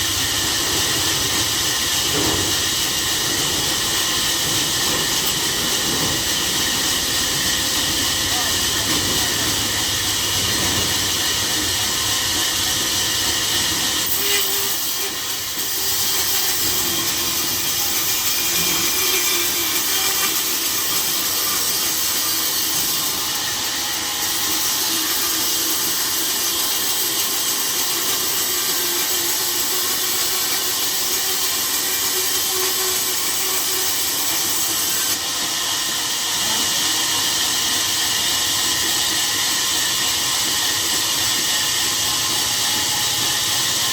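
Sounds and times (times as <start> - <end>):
saw cutting timber hiss: 0.0 - 43.9.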